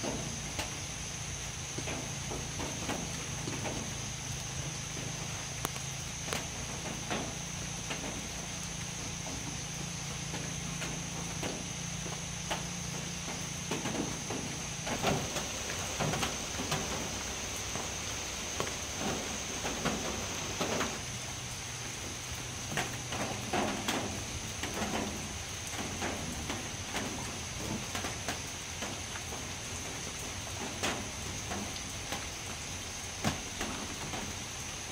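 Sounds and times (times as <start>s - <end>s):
rain hissing: 0.0s - 34.9s.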